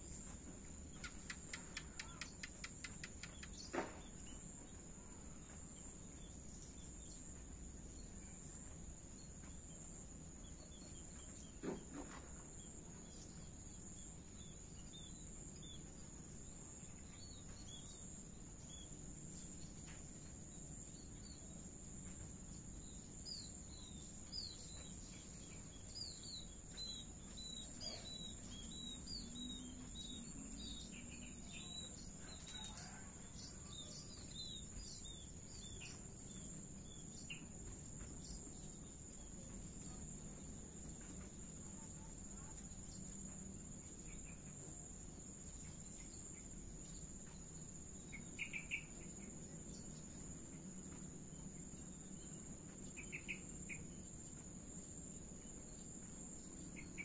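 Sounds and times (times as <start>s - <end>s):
bird chirping: 0.0s - 57.0s
crickets trilling: 0.0s - 57.0s.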